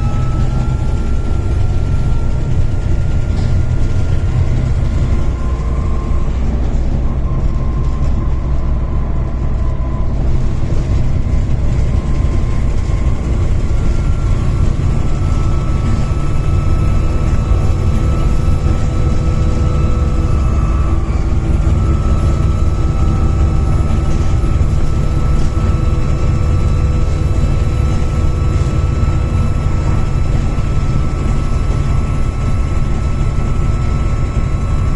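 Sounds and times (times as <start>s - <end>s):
diesel bus engine drone: 0.0s - 34.9s
turbo whine: 0.0s - 34.9s.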